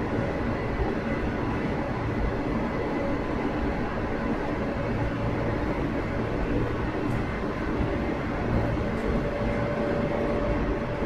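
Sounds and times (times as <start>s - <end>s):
faint steady whine: 0.0s - 11.0s
train wheels rumbling on rails: 0.0s - 11.0s.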